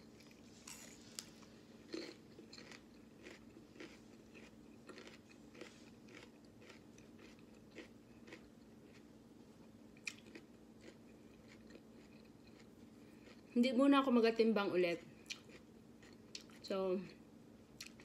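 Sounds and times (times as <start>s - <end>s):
chewing crunchy pepper: 0.0s - 13.6s, 14.9s - 16.7s, 17.8s - 18.0s.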